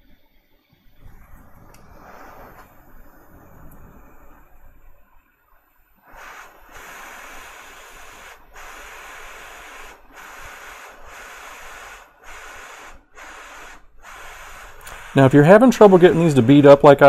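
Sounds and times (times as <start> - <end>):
hot air blower hissing: 1.0 - 5.2, 6.0 - 17.0.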